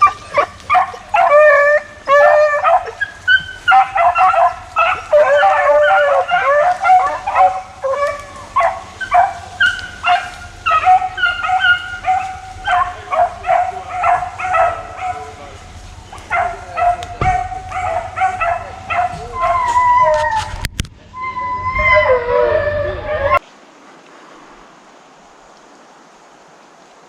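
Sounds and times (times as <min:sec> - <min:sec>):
hounds baying and yelping: 0:00.0 - 0:23.4.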